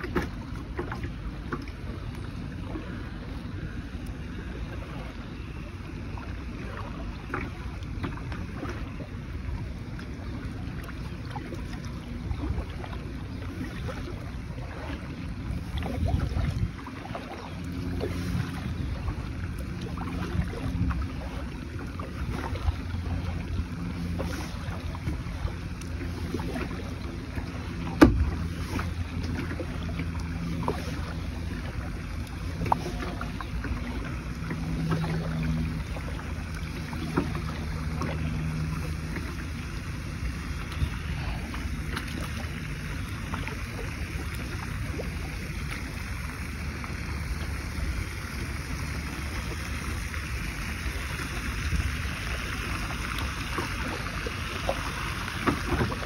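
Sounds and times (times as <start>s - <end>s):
low steady hum: 0.0s - 56.0s
paddle splashing in water: 0.0s - 56.0s.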